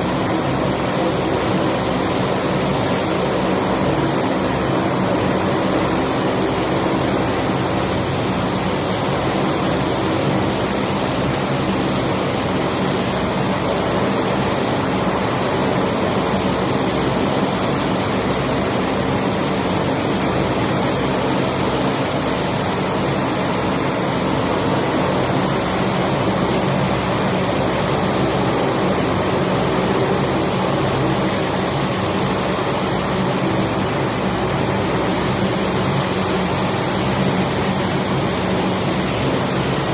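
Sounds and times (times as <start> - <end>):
aircraft engines droning: 0.0 - 39.9.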